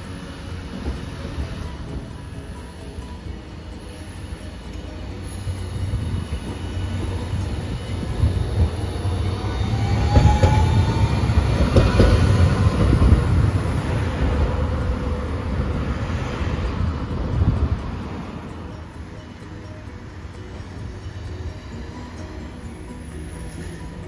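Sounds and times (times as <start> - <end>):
tram rumbling past: 0.0 - 24.0
wheels clacking over rails: 0.0 - 24.0.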